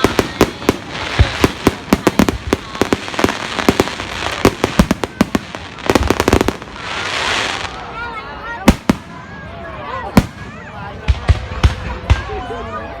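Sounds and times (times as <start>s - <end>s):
fireworks bangs and cracks: 0.0s - 12.8s.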